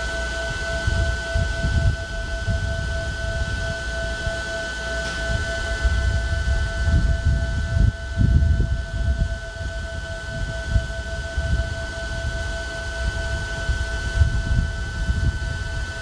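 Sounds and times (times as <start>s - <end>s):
steady two-pitch whine: 0.0s - 16.0s.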